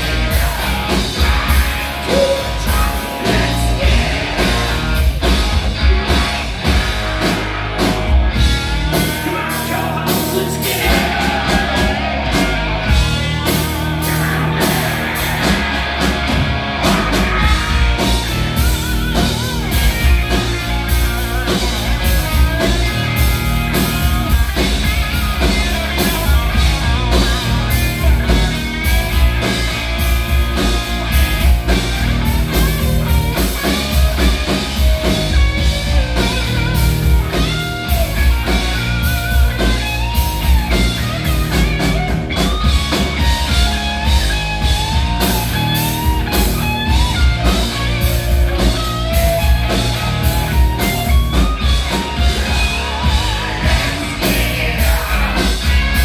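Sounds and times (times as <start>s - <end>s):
drum kit: 0.0s - 56.0s
electric bass: 0.0s - 56.0s.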